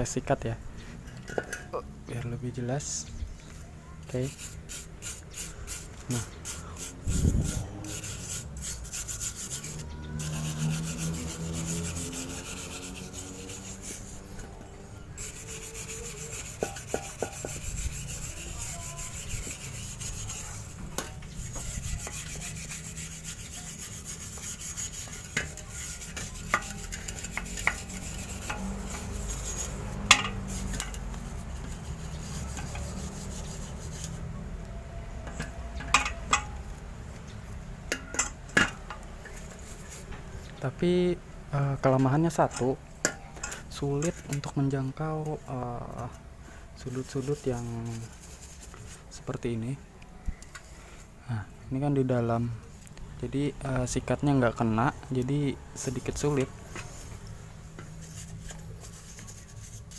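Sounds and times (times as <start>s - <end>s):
wire brush scrubbing metal pipe: 2.8s - 34.3s, 35.2s - 40.2s, 41.6s - 49.8s, 51.8s - 59.9s.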